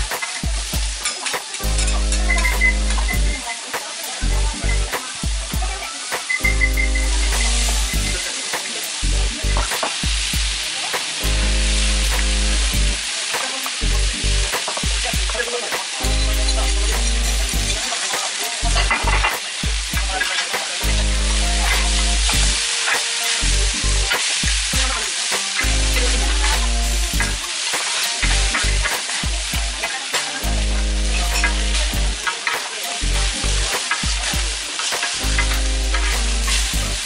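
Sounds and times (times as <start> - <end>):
cabbage sizzling on griddle: 0.0 - 37.0.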